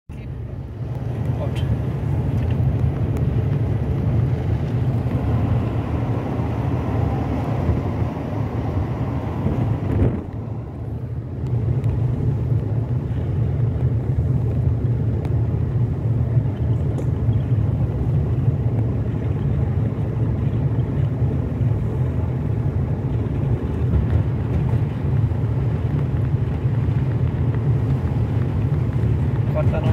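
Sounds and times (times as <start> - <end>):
car engine and road noise: 0.1 - 29.9.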